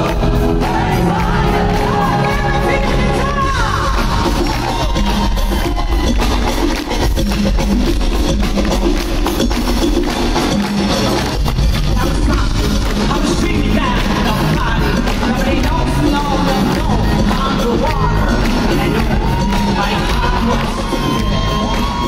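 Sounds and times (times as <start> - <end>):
drum kit beat: 0.0 - 22.0
live band music: 0.0 - 22.0.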